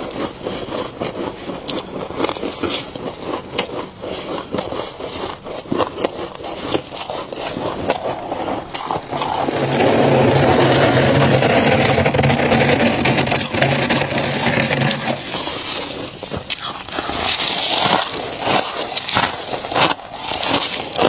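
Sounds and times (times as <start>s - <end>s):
hands scraping freezer frost: 0.0s - 21.0s.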